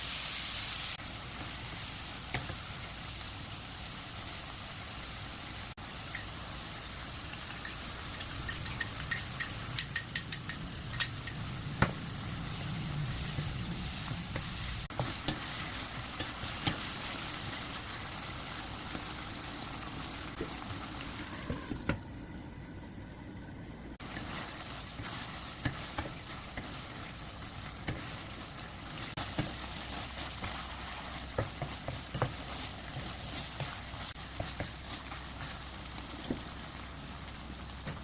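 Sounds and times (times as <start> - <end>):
pork sizzling in a pan: 0.0 - 22.4, 24.0 - 38.0.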